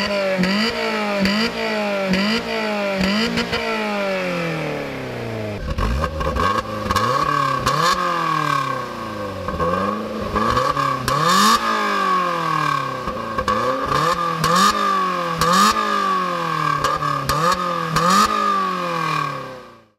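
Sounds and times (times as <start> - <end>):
car engine revving: 0.0 - 19.9
exhaust crackles: 0.4 - 19.4.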